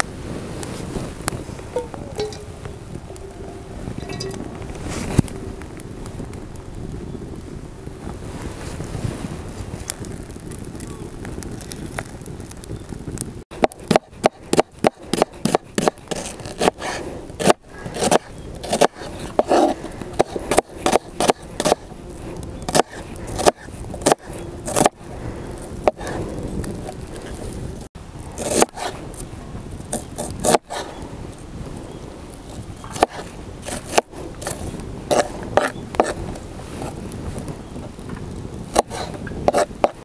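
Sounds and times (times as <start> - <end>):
low wind noise: 0.0 - 40.0.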